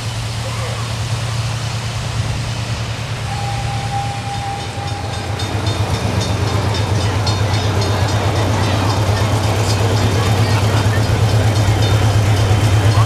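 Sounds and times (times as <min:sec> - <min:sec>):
vehicle humming: 0:00.0 - 0:13.0.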